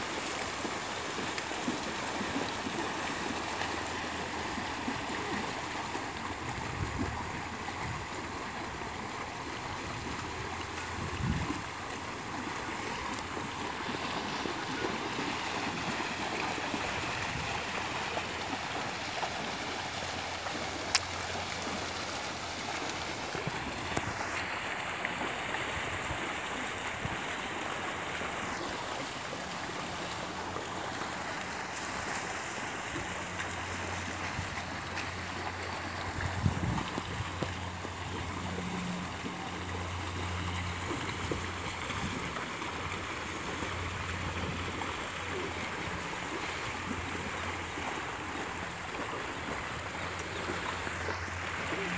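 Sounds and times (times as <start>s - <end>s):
animals splashing through water: 0.0s - 51.9s.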